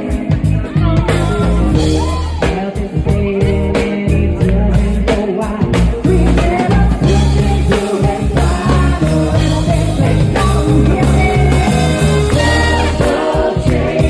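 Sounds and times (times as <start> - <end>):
band playing: 0.0 - 14.0
person singing: 0.0 - 14.0.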